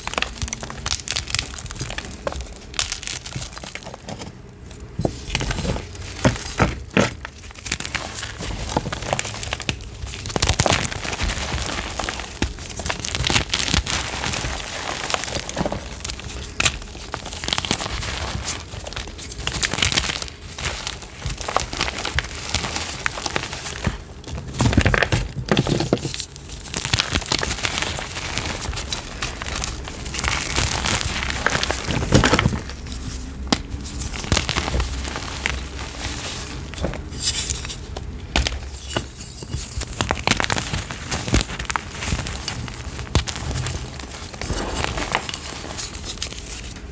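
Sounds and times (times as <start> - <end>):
chalk being crushed: 0.0 - 46.9.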